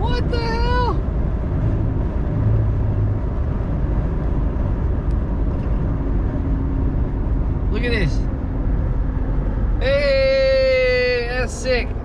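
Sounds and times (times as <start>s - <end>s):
truck cruising road noise: 0.0s - 12.0s.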